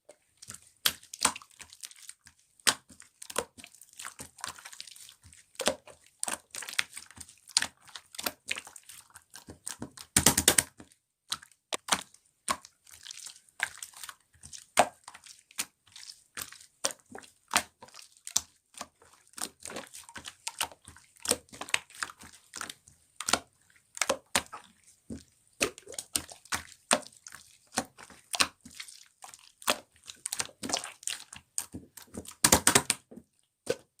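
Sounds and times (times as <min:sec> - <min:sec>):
slime squished by hand: 0:00.4 - 0:33.1.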